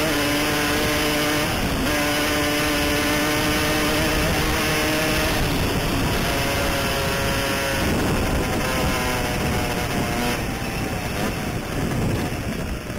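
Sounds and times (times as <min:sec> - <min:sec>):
motorcycle engine running: 0:00.0 - 0:12.9
wind noise on microphone: 0:00.0 - 0:12.9.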